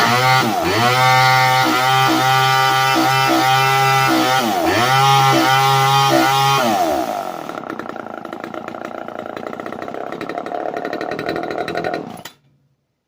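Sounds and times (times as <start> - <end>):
chainsaw engine idling: 0.0 - 12.2.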